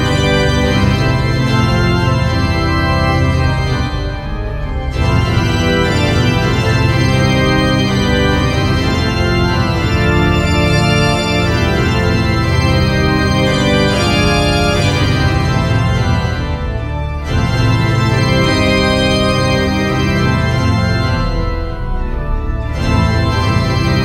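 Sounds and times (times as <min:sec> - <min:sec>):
organ chords: 0:00.0 - 0:24.0.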